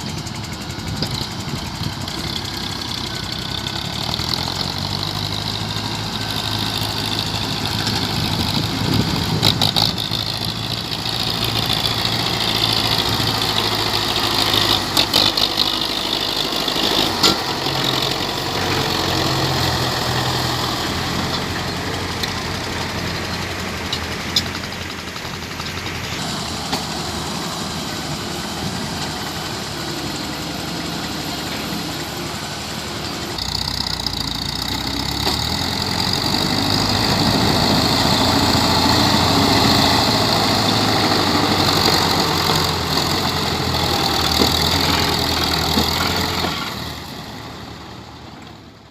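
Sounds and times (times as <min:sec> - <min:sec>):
tractor diesel engine straining: 0:00.0 - 0:48.9.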